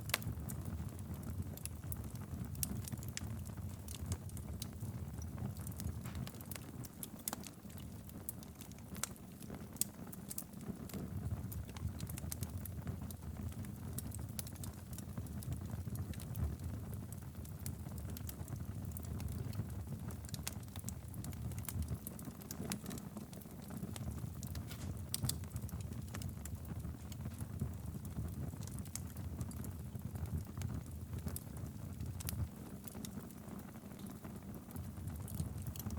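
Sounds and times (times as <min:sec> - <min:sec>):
fire crackles and pops: 0:00.0 - 0:35.9
wood fire burning: 0:00.0 - 0:35.9.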